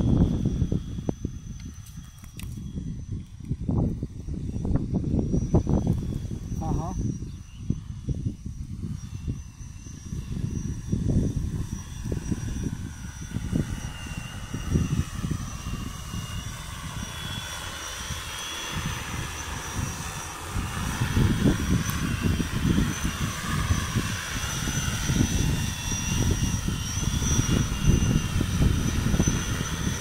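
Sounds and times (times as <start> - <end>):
drone propellers whirring: 0.0 - 30.0
gusty low rumbling: 0.0 - 30.0.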